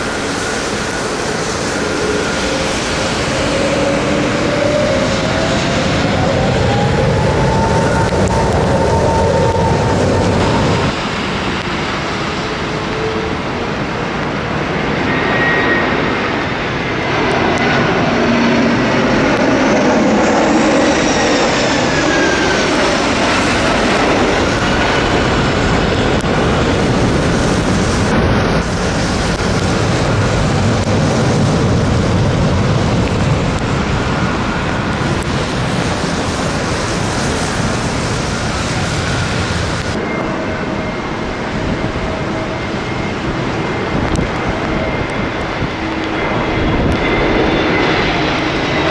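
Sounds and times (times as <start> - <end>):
jet engines rushing and whining: 0.0 - 48.9.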